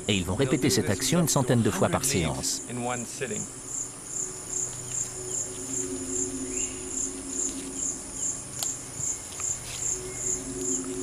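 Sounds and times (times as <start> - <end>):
faint low hum: 0.0 - 11.0
insects chirping: 0.0 - 11.0.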